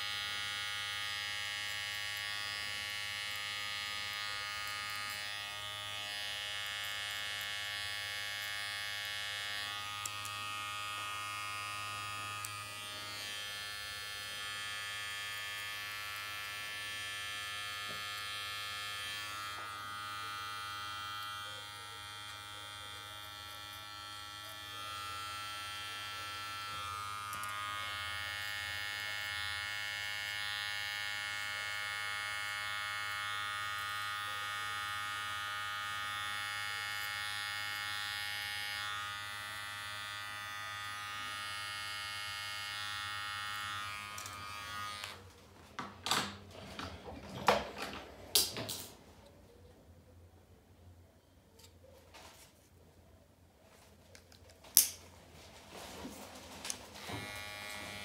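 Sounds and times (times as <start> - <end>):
electric hair clipper buzzing: 0.0 - 46.5, 56.7 - 58.0.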